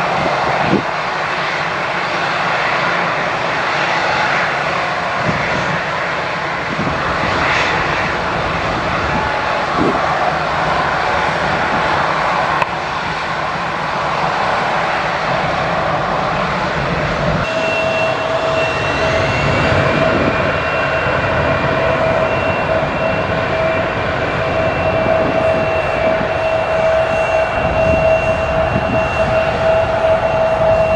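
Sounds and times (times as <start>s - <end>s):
jet engines rushing: 0.0s - 30.9s
two-tone aircraft engine whine: 0.0s - 30.9s.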